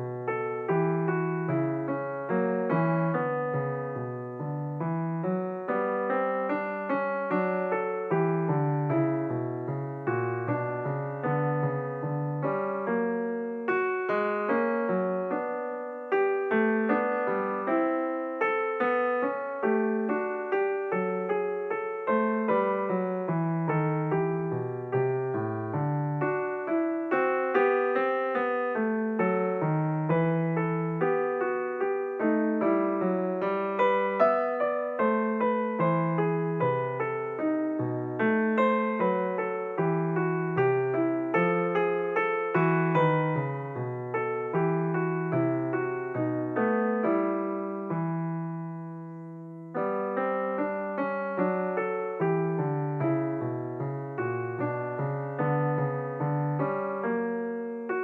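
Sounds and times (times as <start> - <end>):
solo piano playing: 0.0 - 58.0.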